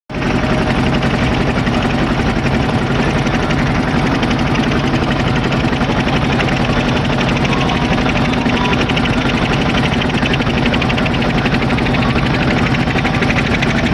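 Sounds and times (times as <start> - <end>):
motorboat engine droning: 0.1 - 13.9.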